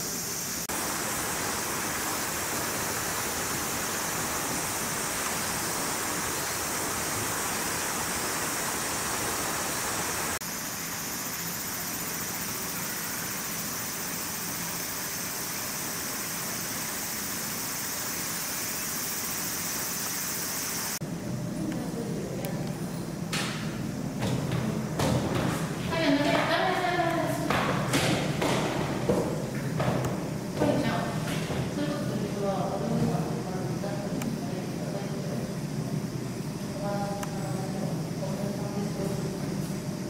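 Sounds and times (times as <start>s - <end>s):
steady outdoor hiss: 0.0s - 40.0s.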